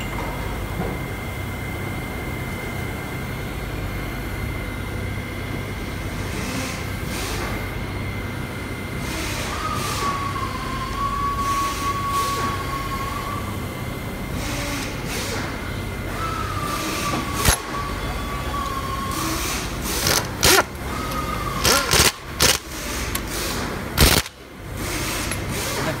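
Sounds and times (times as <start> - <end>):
machine whine: 0.0 - 26.0
workshop machinery rumble: 0.0 - 26.0.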